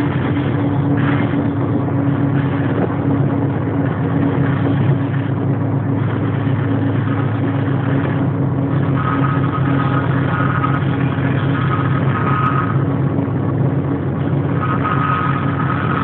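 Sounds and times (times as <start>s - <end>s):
locomotive engine drone: 0.0s - 16.0s
moving train rumble: 0.0s - 16.0s.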